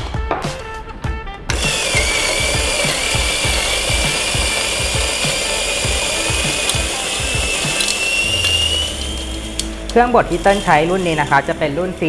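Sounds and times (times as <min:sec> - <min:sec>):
coffee grinder grinding beans: 0:01.5 - 0:12.0.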